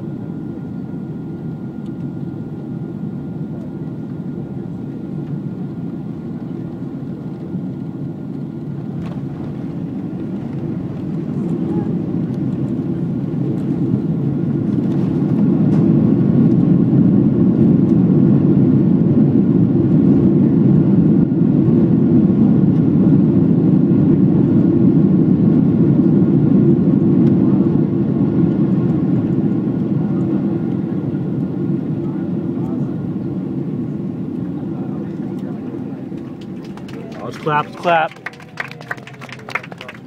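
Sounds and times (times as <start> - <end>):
jet engines in reverse thrust: 0.0 - 38.4.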